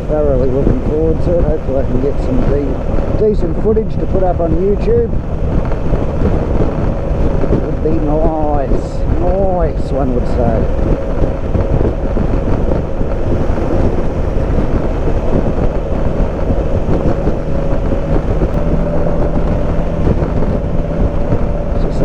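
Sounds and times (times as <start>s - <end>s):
motorcycle engine cruising: 0.0s - 22.0s
wind and road rush: 0.0s - 22.0s.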